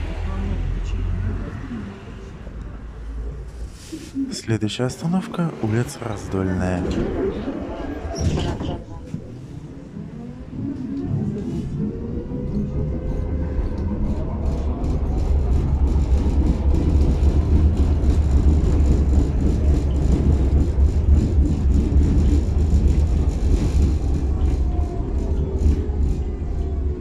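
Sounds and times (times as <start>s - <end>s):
tram wheels rumbling on rails: 0.0s - 27.0s
tram motor whine: 5.3s - 27.0s.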